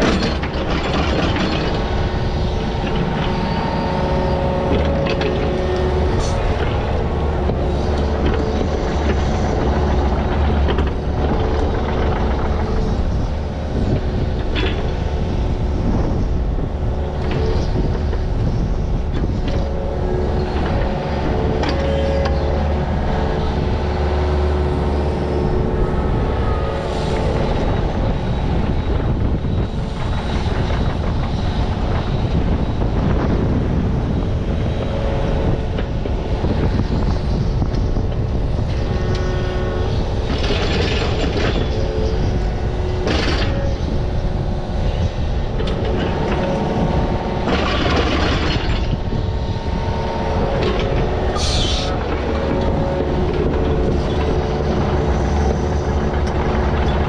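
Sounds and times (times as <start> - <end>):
digging machine engine running: 0.0 - 57.0.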